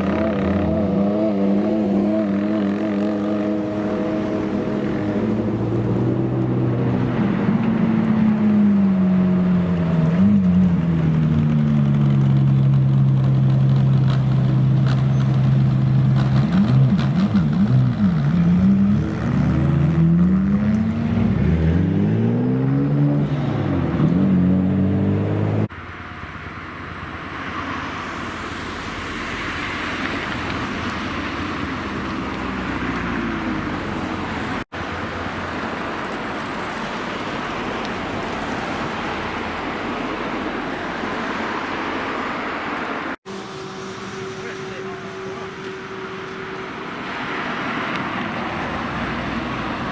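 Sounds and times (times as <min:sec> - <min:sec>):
car engines revving: 0:00.0 - 0:26.1, 0:26.8 - 0:49.9.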